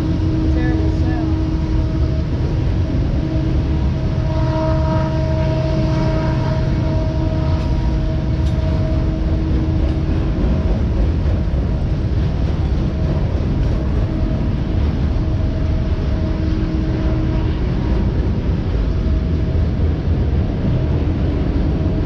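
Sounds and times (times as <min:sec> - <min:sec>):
freight train wheels rumbling: 0:00.0 - 0:22.0
steady whining tone: 0:00.0 - 0:22.0.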